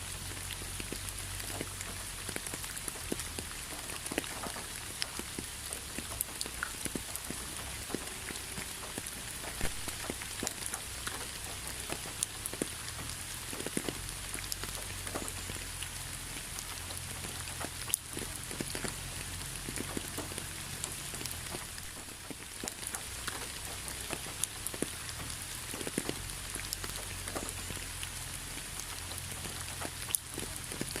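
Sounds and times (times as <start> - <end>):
low steady rumble: 0.0 - 31.0
rain hiss: 0.0 - 31.0
raindrops ticking on a surface: 0.0 - 31.0.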